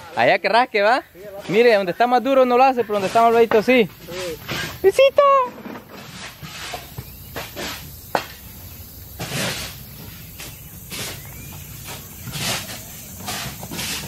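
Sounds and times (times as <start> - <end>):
hand tool scraping through dirt: 1.2 - 14.0.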